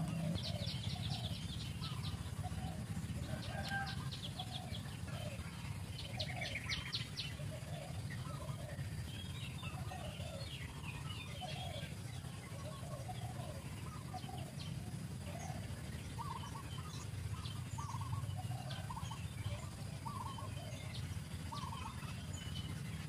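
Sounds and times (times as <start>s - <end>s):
bird clucking calls: 0.0s - 23.0s
bird rattling trills: 0.0s - 23.0s
steady low hum: 0.0s - 23.0s.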